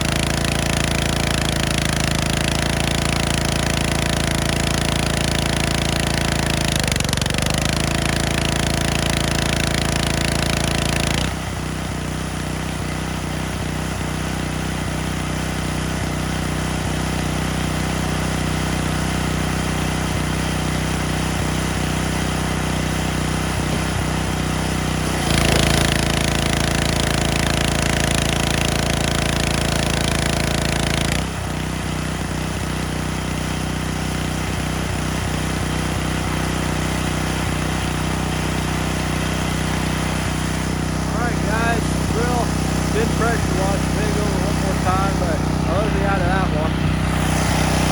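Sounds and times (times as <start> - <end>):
gasoline engine running: 0.0 - 47.9
high-pressure water spray hissing: 0.0 - 47.9.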